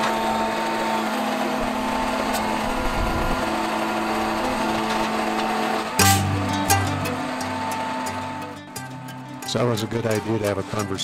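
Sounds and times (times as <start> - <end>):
truck engine and hydraulics humming: 0.0 - 11.0.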